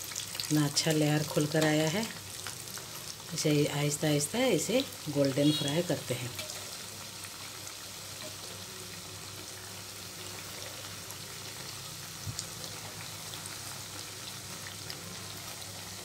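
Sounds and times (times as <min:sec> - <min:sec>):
dough deep-frying in oil: 0:00.0 - 0:16.0.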